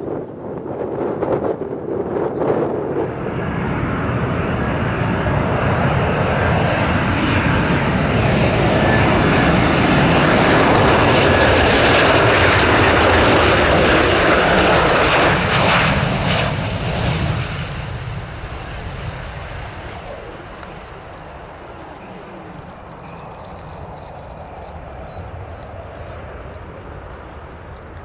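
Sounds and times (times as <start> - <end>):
jet engines passing low: 0.0 - 28.0.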